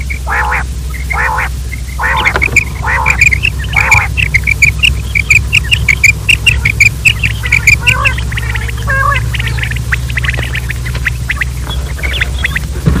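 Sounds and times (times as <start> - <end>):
harsh lower bird call: 0.0 - 12.8
quail chirping: 0.0 - 13.0
steady low hum: 0.0 - 13.0.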